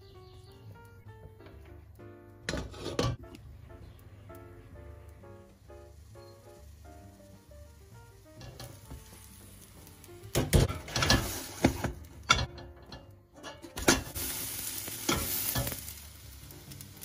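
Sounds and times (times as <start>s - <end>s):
dough sizzling in a frying pan: 2.4s - 17.0s.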